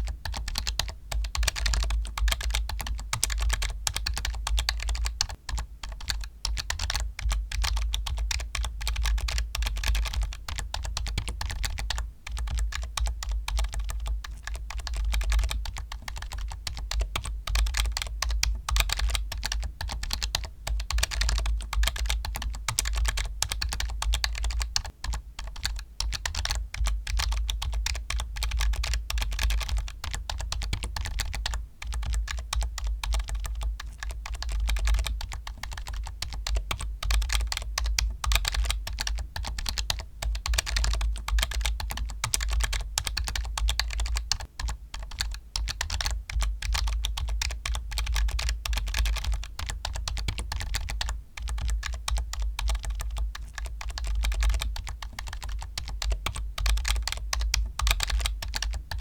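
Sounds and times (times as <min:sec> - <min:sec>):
fast typing on keyboard: 0:00.0 - 0:59.0.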